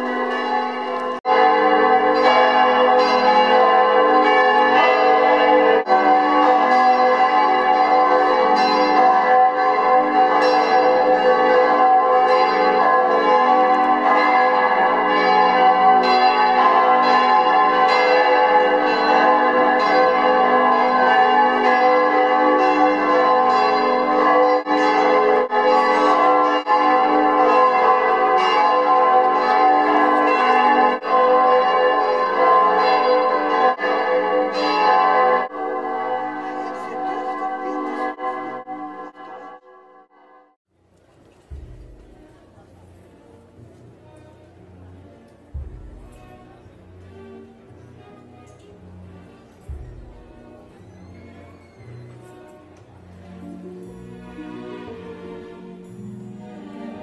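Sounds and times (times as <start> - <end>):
church bells pealing: 0.0 - 40.6, 41.3 - 57.0.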